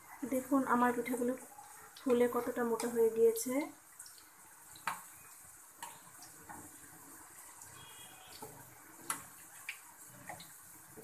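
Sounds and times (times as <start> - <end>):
crackles and clicks of frying: 0.0 - 11.0
oil sizzling in a pan: 0.0 - 11.0.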